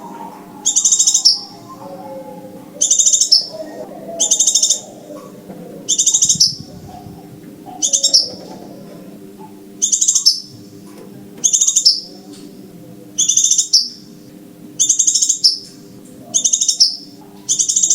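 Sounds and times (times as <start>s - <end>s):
recorded bird calls: 0.0s - 14.2s, 14.8s - 17.9s
faint low hum: 0.0s - 17.9s.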